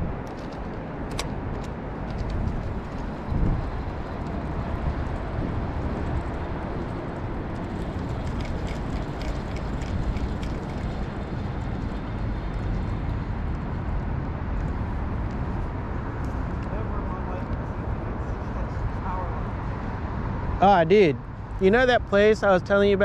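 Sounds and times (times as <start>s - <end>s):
wind rumbling on microphone: 0.0s - 20.6s.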